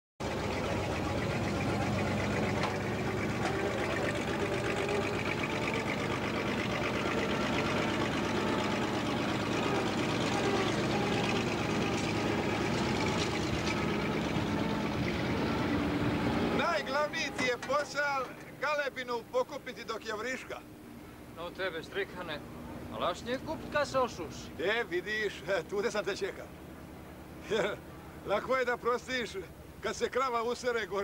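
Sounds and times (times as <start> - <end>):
street bustle: 0.2 - 19.2, 20.6 - 28.4
vehicle engine running: 0.2 - 31.0.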